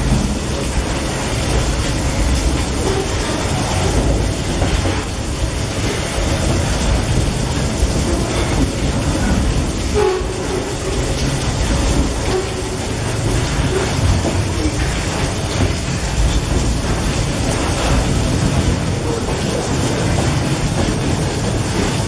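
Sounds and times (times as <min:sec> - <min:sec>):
freight wagons rolling on rails: 0:00.0 - 0:22.0
heavy rain falling: 0:00.0 - 0:22.0.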